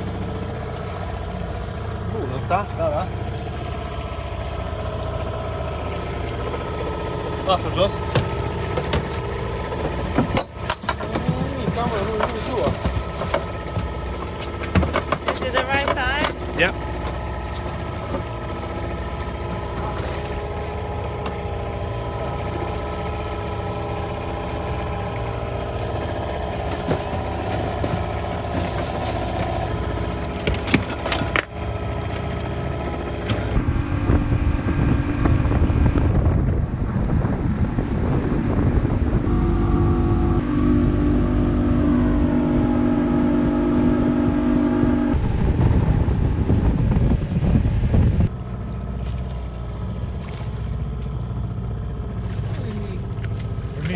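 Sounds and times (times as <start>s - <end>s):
motorboat engine running: 0.0s - 53.9s.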